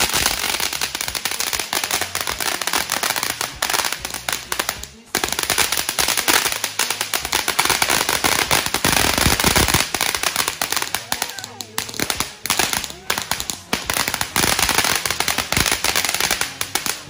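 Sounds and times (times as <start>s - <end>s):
firework fountain crackling: 0.0s - 17.0s.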